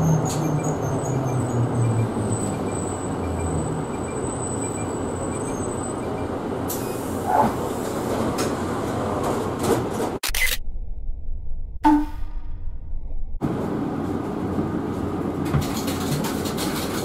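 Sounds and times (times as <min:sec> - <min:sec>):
bus engine rumble: 0:00.0 - 0:10.5, 0:12.3 - 0:17.0.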